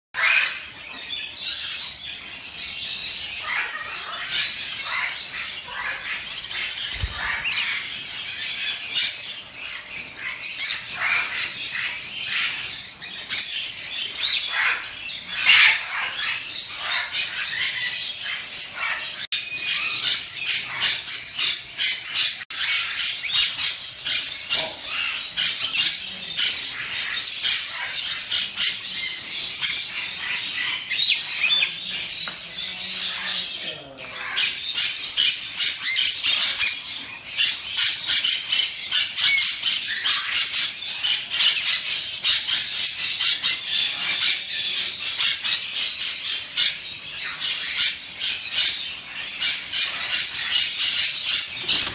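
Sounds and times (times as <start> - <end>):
birds chirping and squawking: 0.2 - 51.9.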